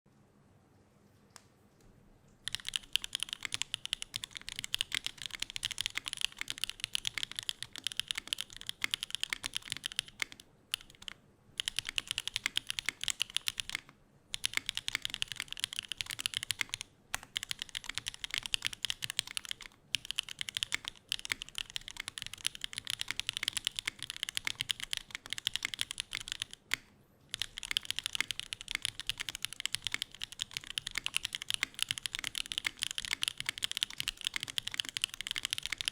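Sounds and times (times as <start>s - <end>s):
fast mechanical keyboard typing: 2.4s - 35.9s.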